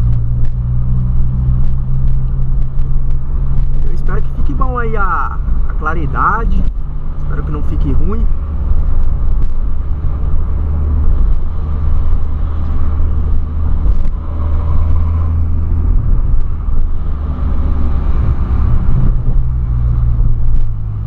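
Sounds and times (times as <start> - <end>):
car engine drone from inside: 0.0 - 21.0.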